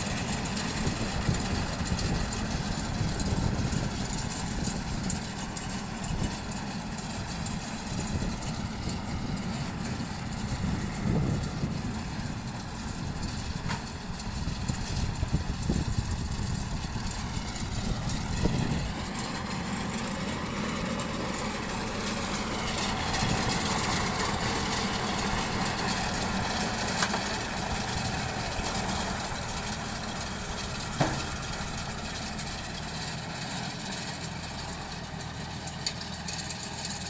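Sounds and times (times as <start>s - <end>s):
baler engine running: 0.0s - 37.0s.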